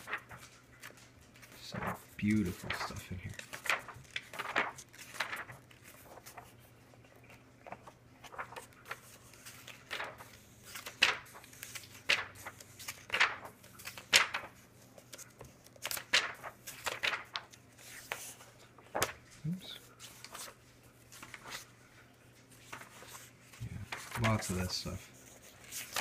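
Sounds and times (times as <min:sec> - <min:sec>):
glossy pages turning: 0:00.0 - 0:26.0.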